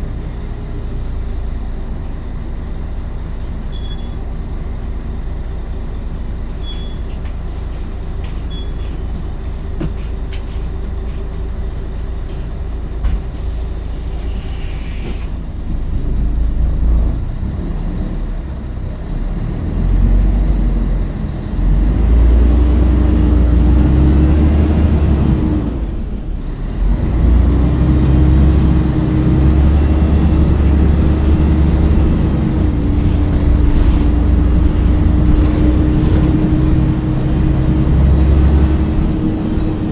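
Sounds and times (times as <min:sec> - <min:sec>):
diesel bus engine accelerating: 0:00.0 - 0:39.9.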